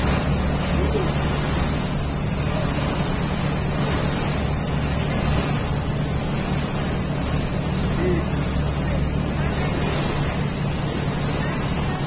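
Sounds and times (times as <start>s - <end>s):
boat engine drone: 0.0s - 12.0s
water rushing along hull: 0.0s - 12.0s.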